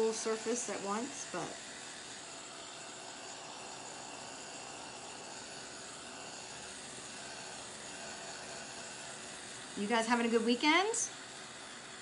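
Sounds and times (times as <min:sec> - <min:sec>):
heat gun blowing hot air: 0:00.0 - 0:12.0.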